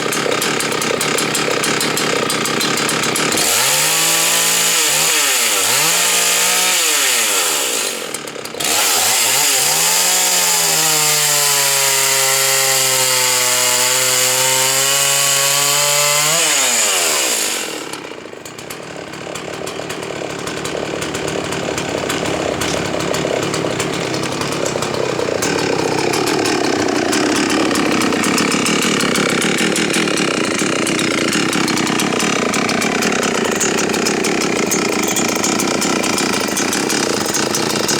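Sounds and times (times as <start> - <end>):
chain cutting wood: 0.0 - 37.9
chainsaw engine running: 0.0 - 37.9.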